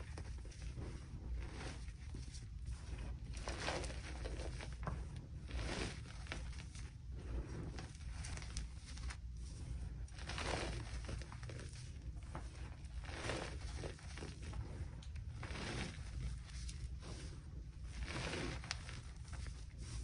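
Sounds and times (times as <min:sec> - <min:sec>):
hands patting loose powder: 0:00.0 - 0:20.0.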